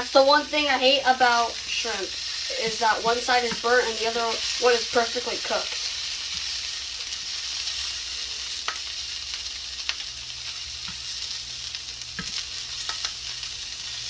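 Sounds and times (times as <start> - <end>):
shrimp sizzling in oil: 0.0 - 14.0.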